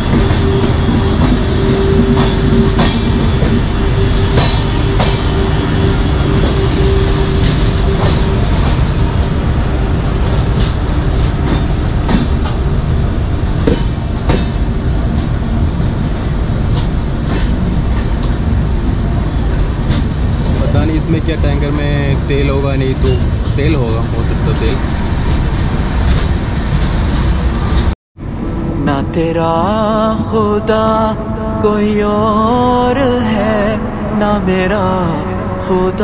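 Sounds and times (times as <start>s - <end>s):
train wheels rumbling: 0.0s - 31.2s.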